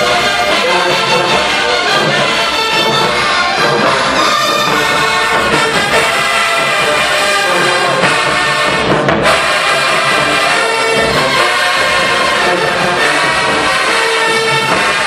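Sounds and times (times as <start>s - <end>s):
brass holding long notes: 0.0s - 15.0s
marching band playing: 0.0s - 15.0s.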